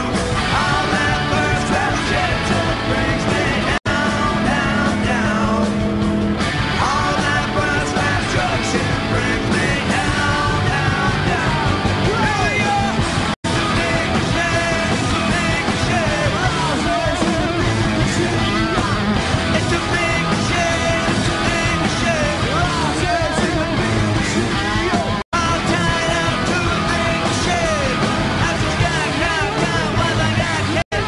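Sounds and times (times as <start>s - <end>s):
hard rock song with male vocal: 0.0s - 31.0s.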